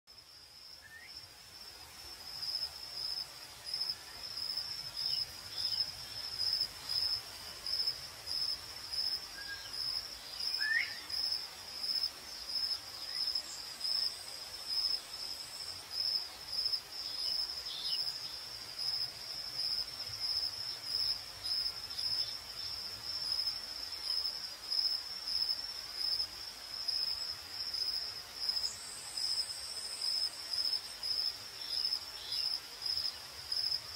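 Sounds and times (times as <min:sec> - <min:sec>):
crickets chirping: 0:00.1 - 0:33.9
faint higher insect calls: 0:00.1 - 0:33.9.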